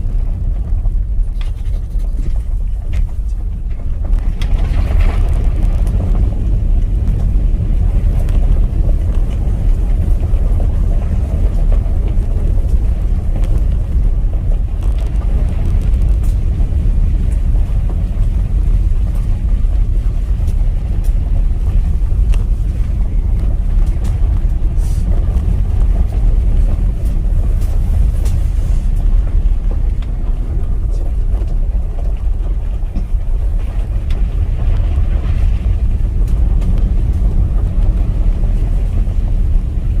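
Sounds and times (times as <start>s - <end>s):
tyres rolling over gravel: 0.0s - 40.0s.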